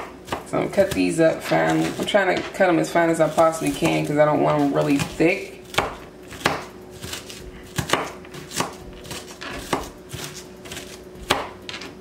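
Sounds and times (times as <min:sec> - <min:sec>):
knife chopping on plastic board: 0:00.0 - 0:02.5, 0:03.2 - 0:11.8.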